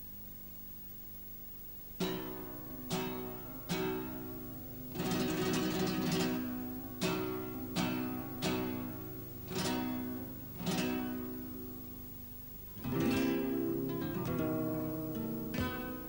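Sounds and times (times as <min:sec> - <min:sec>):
acoustic guitar strumming chords: 0:01.9 - 0:16.0.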